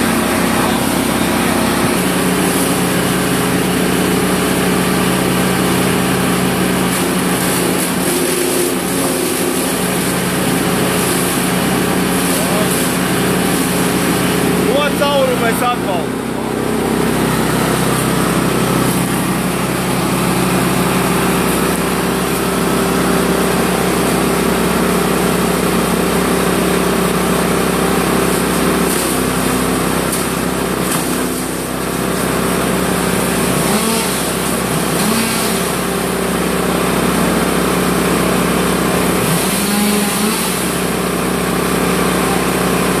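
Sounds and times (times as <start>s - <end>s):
branch chipper running: 0.0s - 43.0s.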